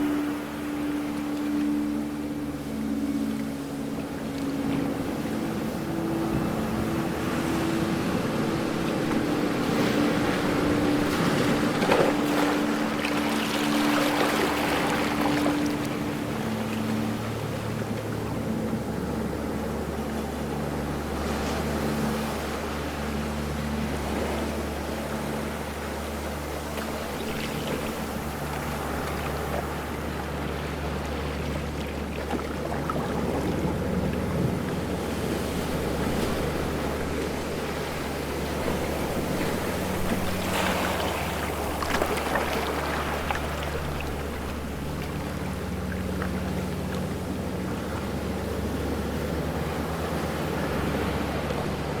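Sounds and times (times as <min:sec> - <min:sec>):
ocean waves washing: 0:00.0 - 0:52.0
steady low hum: 0:00.0 - 0:52.0.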